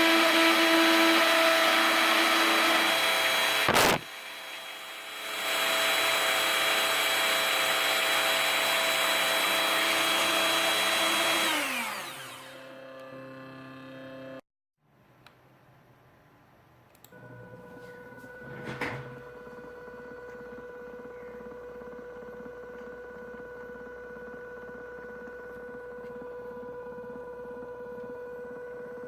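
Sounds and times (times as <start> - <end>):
drill spindle whining: 0.0 - 14.2, 17.8 - 29.0.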